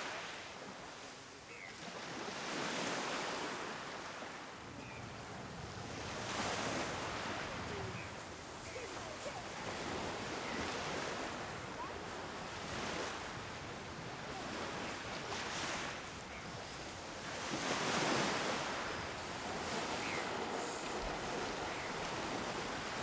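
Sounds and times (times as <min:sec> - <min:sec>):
waves washing onto beach: 0:02.0 - 0:23.0.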